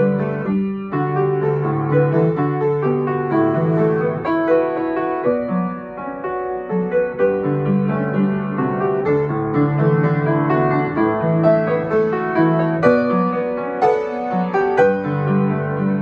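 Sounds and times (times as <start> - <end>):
upright piano playing: 0.0 - 16.0.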